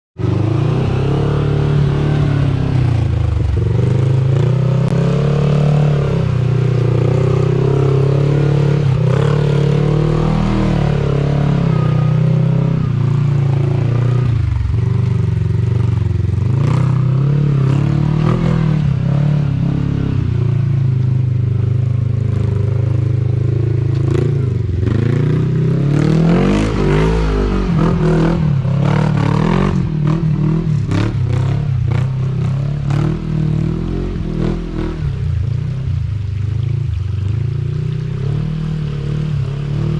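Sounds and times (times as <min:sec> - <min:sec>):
engine revving under load: 0:00.2 - 0:15.0, 0:16.4 - 0:21.2, 0:24.0 - 0:36.3.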